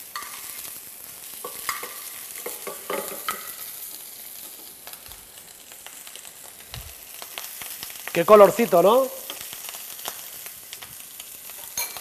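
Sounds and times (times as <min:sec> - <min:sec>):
prawns sizzling in a frying pan: 0:00.0 - 0:12.0.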